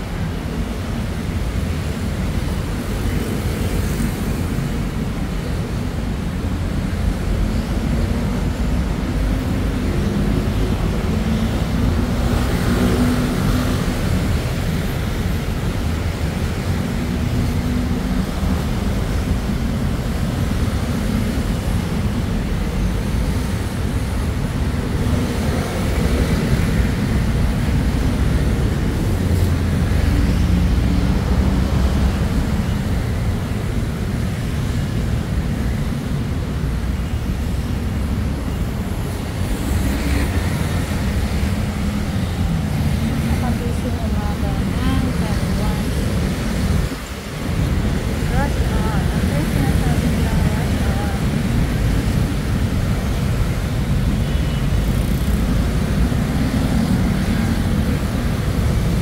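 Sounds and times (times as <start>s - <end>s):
road traffic passing: 0.0s - 59.0s
wind rumble on microphone: 0.0s - 59.0s.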